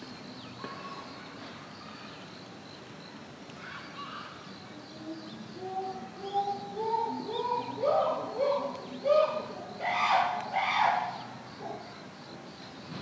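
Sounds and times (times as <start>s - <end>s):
faint indistinct voices: 0.4s - 13.0s.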